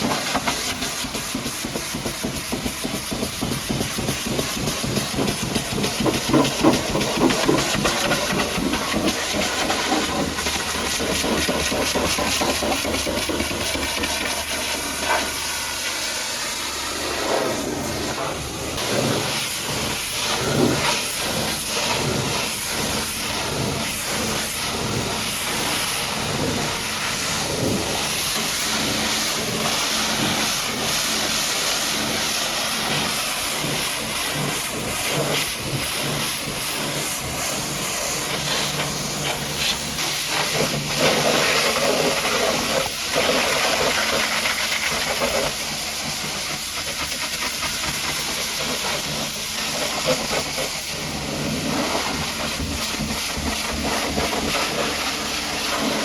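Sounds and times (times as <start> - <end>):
pressure washer spraying: 0.0 - 56.0.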